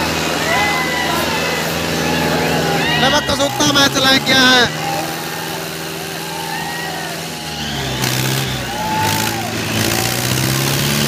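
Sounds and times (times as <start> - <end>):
crowd voices and shouts: 0.0 - 11.0
tractor diesel engine running: 0.0 - 11.0.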